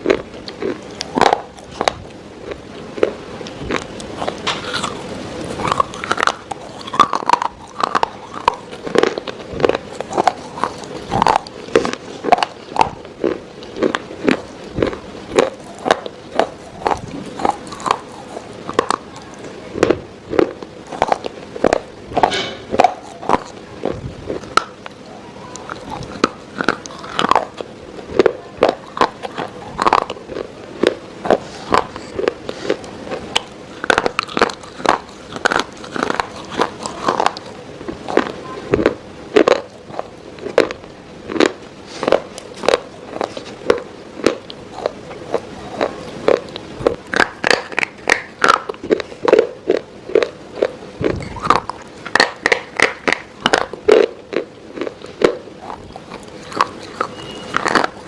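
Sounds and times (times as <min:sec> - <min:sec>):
crunchy food being chewed: 0:00.0 - 0:58.0.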